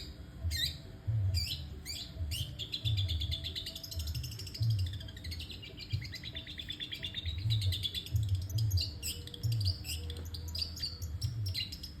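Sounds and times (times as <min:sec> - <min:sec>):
shrike singing chirping notes: 0:00.0 - 0:12.0.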